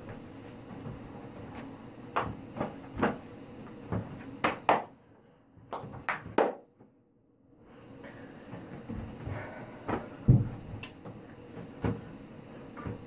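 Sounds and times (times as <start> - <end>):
knocks and thumps in tiled room: 0.0 - 7.0, 8.0 - 13.0.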